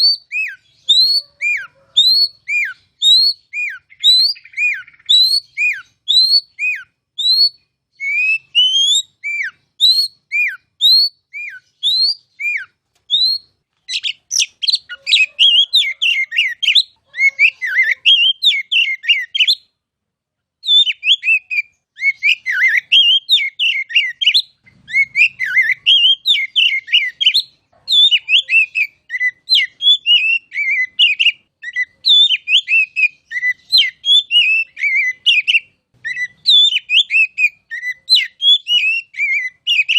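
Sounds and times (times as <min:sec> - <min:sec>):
bird singing whistles and warbles: 0:00.0 - 0:19.7, 0:20.6 - 0:39.9.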